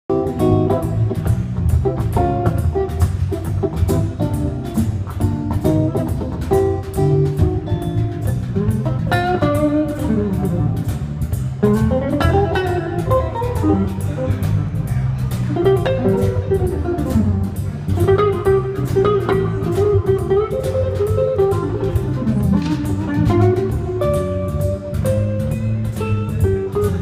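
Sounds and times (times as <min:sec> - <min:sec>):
electric guitar: 0:00.0 - 0:27.0
drum kit beat: 0:00.1 - 0:27.0
low bass line: 0:00.1 - 0:27.0.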